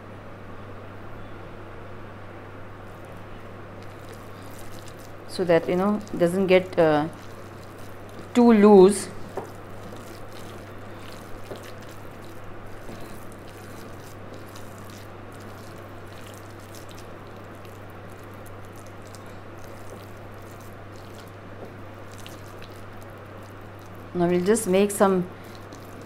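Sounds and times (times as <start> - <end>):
steady low hum: 0.0 - 26.0
hands squelching wet dough: 2.9 - 26.0.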